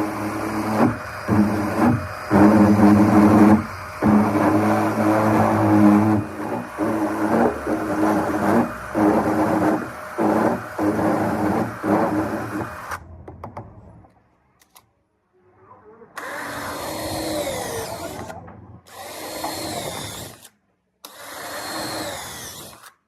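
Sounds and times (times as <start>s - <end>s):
power drill running: 0.0s - 13.0s, 16.2s - 22.9s.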